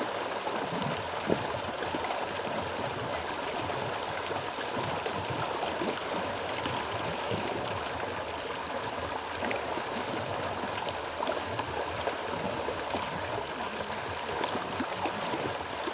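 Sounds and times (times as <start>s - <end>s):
water rushing and gurgling: 0.0s - 15.9s.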